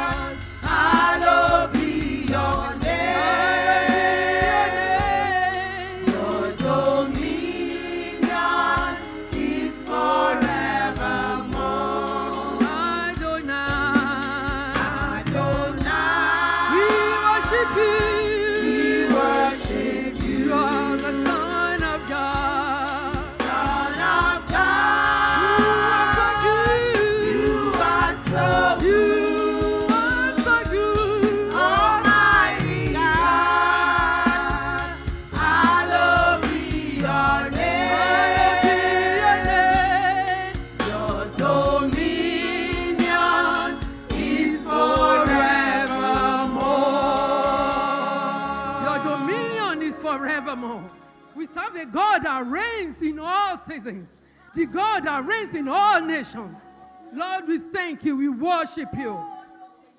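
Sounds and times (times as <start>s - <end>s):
drums steady beat: 0.0s - 49.1s
choir singing with vibrato: 0.0s - 51.7s
gospel instruments: 0.0s - 59.9s.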